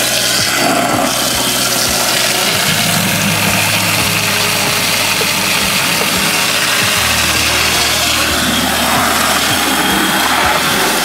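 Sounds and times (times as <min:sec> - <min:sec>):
hose water spraying into a tub: 0:00.0 - 0:11.0.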